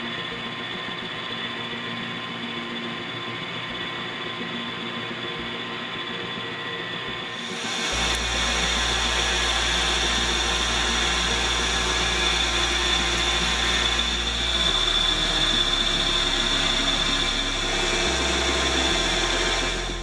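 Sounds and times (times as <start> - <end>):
lathe cutting metal: 0.0 - 20.0
low hum: 0.0 - 20.0.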